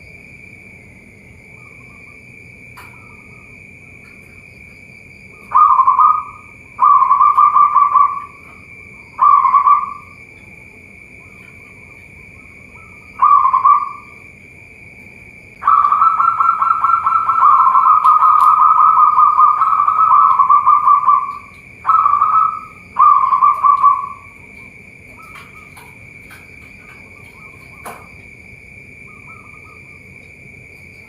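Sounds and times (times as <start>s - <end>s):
doves cooing: 1.4s - 31.0s.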